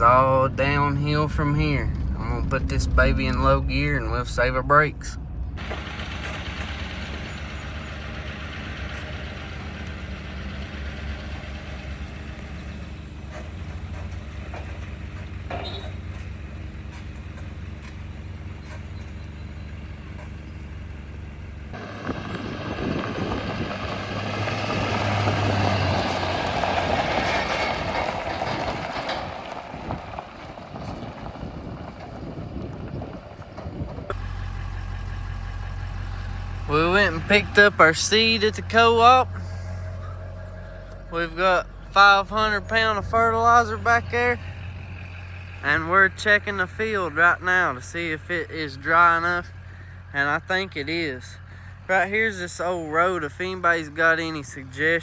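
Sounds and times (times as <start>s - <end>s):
diesel truck engine running: 0.0s - 55.0s
road and wind noise: 0.0s - 55.0s.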